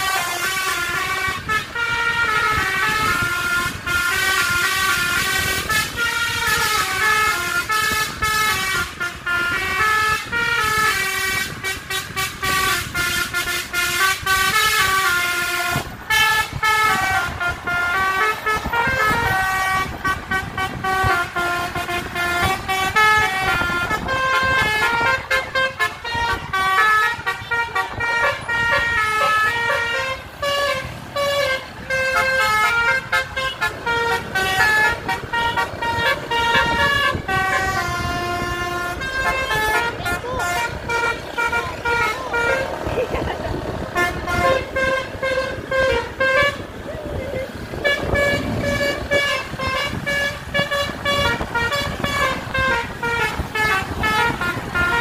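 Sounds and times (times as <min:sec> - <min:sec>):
multi-tone air horns playing tune: 0:00.0 - 0:55.0
road noise: 0:00.0 - 0:55.0.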